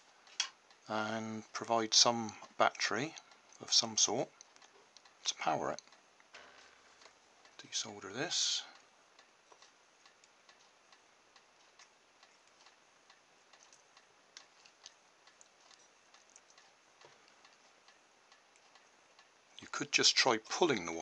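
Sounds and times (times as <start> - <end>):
faint regular ticking: 0.0 - 21.0.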